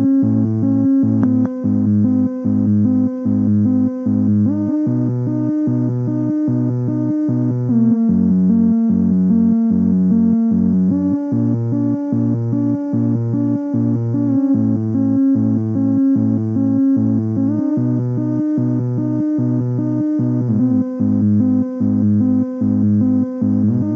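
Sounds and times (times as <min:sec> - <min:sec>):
ambient synthesizer sequence: 0:00.0 - 0:23.9.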